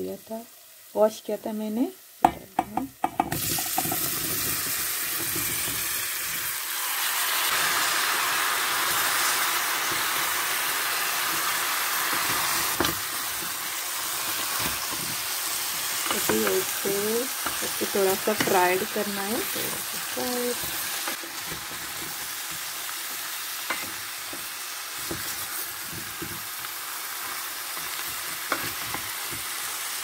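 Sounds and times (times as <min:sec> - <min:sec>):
oil sizzling: 0:00.0 - 0:30.0.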